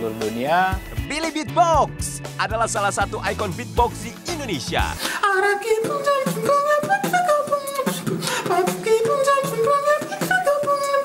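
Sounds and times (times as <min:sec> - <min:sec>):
beatboxing drum strokes: 0:00.8 - 0:11.0.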